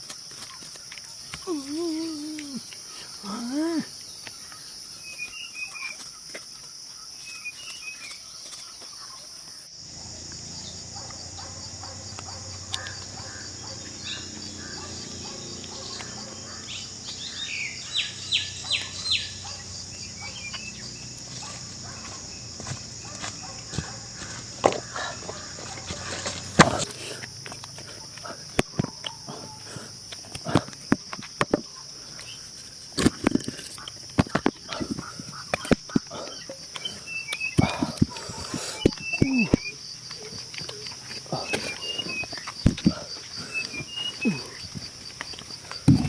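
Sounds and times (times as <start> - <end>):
high-pitched insect drone: 0.0 - 6.1, 9.7 - 31.2, 34.4 - 46.0
bird chirps: 0.5 - 26.6, 33.7 - 46.0.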